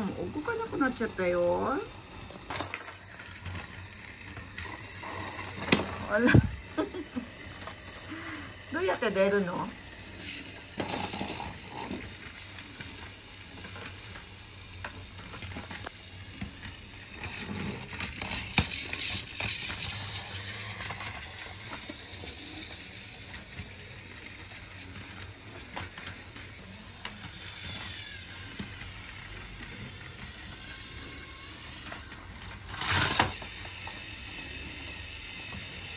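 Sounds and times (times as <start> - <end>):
toy train motor whirring: 0.0 - 35.9.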